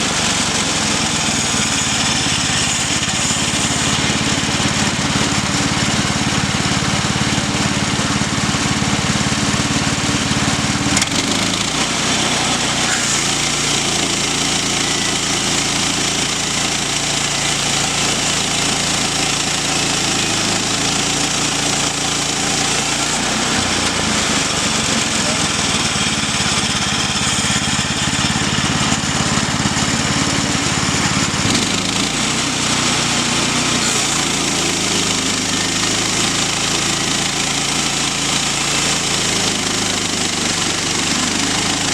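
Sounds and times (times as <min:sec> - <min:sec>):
small petrol engine running: 0:00.0 - 0:41.9.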